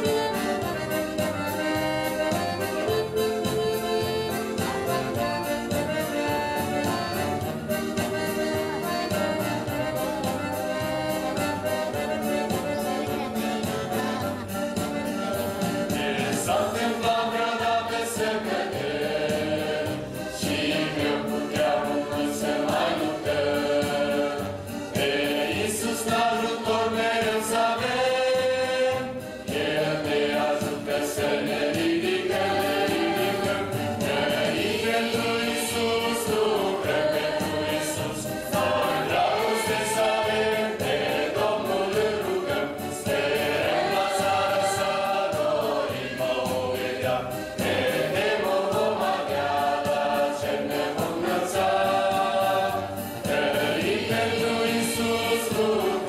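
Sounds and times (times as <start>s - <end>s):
choir singing a hymn: 0.0s - 56.0s
electronic keyboard: 0.0s - 56.0s.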